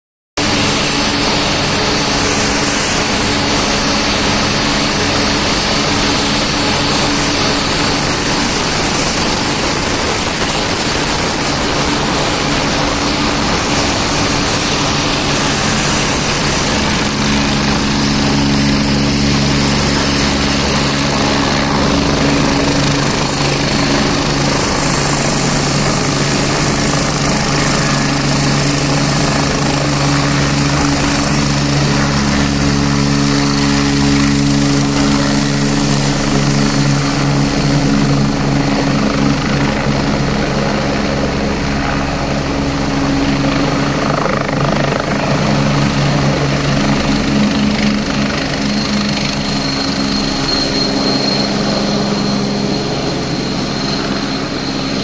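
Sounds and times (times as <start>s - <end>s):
helicopter turbine whine: 0.4s - 55.0s
low drone: 0.4s - 55.0s.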